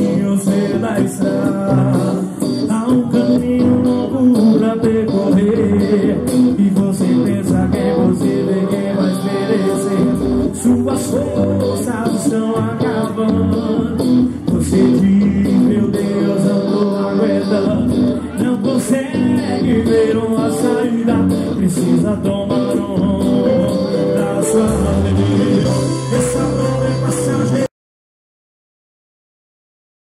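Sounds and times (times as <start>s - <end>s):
electric guitar: 0.0s - 27.7s
keyboard: 0.0s - 27.7s
man singing: 0.0s - 27.7s.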